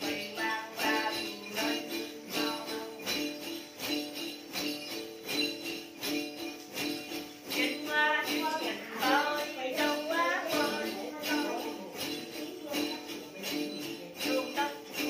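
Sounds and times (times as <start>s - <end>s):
jingle bells shaken: 0.0s - 15.0s
plucked lute: 0.0s - 15.0s.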